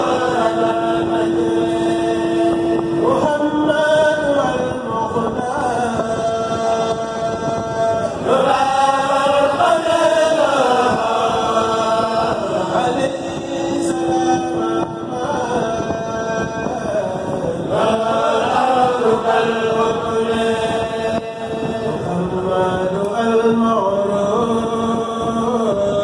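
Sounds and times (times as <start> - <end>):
men chanting a cappella: 0.0 - 26.0.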